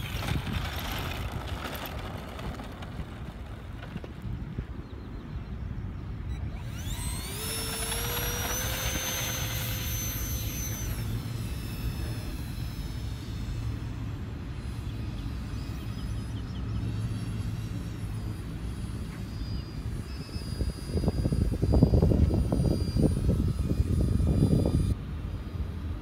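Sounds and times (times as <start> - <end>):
electric ducted fans whining: 0.0 - 26.0.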